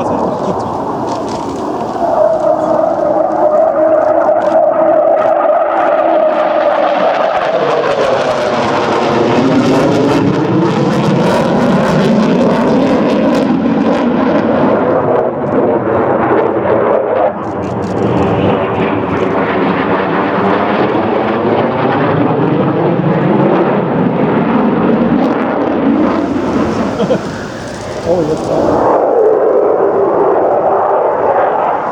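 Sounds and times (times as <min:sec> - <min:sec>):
jet engines roaring overhead: 0:00.0 - 0:31.9.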